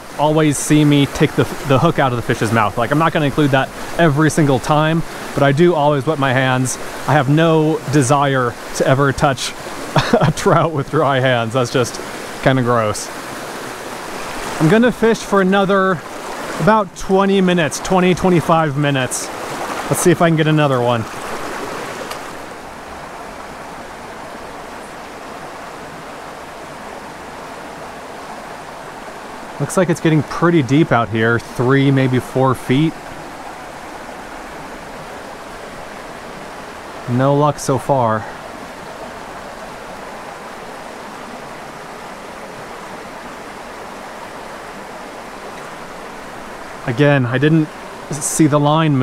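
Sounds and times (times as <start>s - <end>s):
creek running over rocks: 0.0s - 49.0s.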